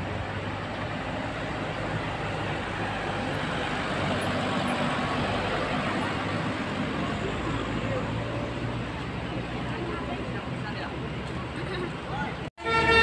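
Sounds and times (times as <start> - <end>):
bus engine running: 0.0 - 13.0
road and traffic noise: 0.0 - 13.0.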